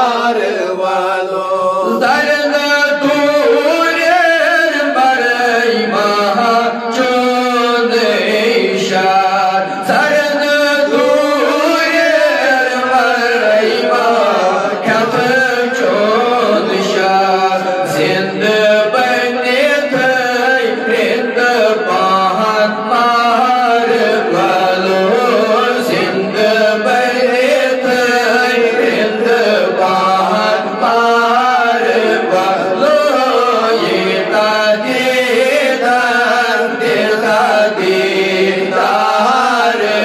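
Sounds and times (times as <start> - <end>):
man chanting devotional song: 0.0 - 40.0.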